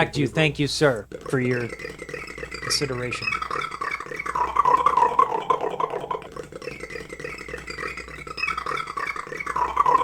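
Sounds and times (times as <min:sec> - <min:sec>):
beatboxer buzzing mouth sound: 0:01.2 - 0:10.0.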